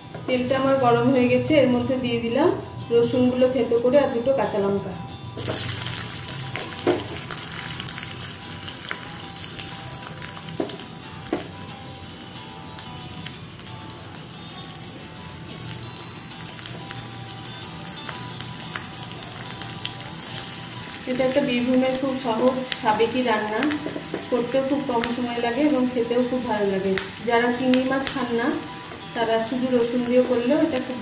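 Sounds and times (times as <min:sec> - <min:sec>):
garlic sizzling in hot oil: 0:05.4 - 0:31.0.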